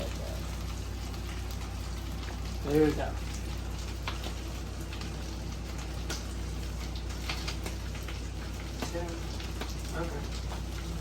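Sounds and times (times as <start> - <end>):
food sizzling in a skillet: 0.0 - 11.0.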